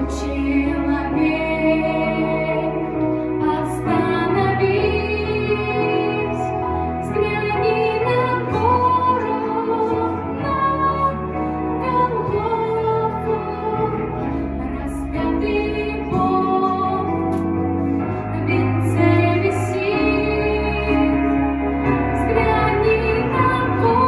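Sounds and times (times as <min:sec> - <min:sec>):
slow christian song: 0:00.0 - 0:24.0.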